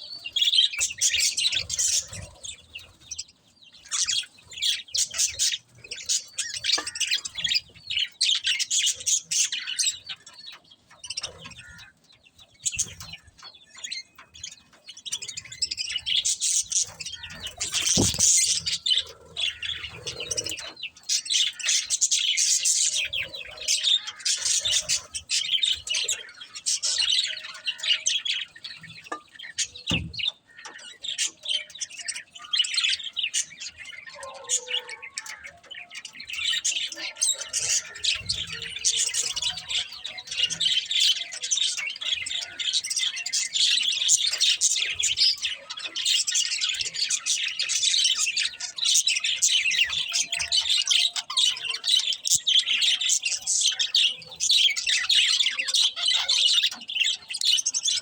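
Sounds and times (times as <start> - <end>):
budgies chirping and warbling: 0.0 - 58.0.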